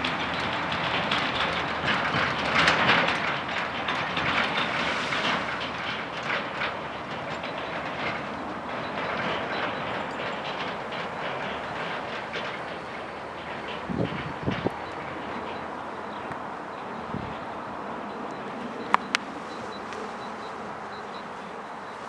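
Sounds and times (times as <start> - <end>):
level-crossing barriers rattling: 0.0 - 22.0.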